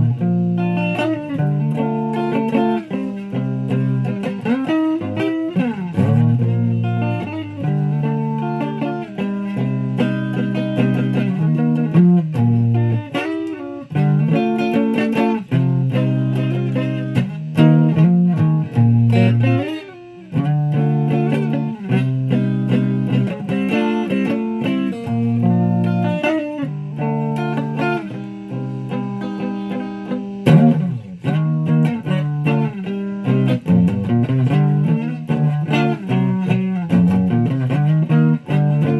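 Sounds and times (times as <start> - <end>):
guitar notes and chords: 0.0 - 38.9.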